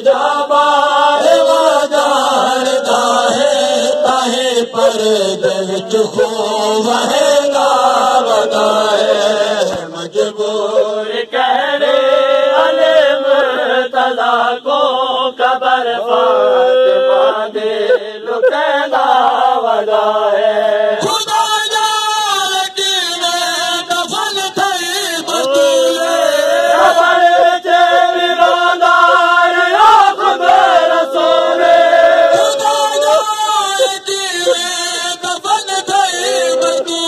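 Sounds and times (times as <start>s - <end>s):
man chanting a lament: 0.0s - 37.0s.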